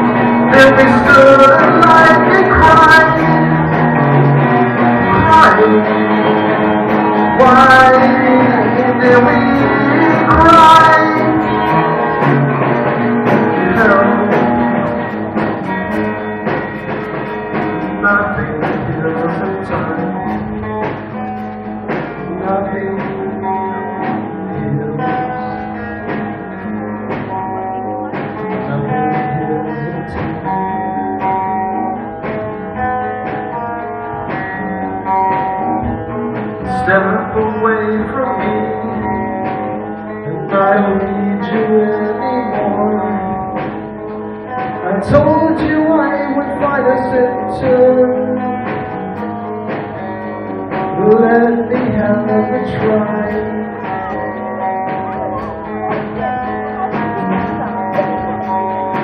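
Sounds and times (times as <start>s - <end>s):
man singing: 0.0s - 16.3s, 17.6s - 20.8s, 21.8s - 32.1s, 36.5s - 59.0s
drums: 0.0s - 59.0s
electric guitar: 0.0s - 59.0s.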